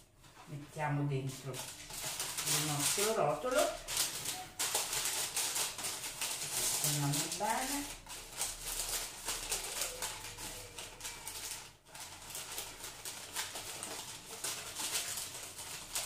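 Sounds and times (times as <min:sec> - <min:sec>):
parchment paper rustling and crinkling: 0:00.0 - 0:16.0.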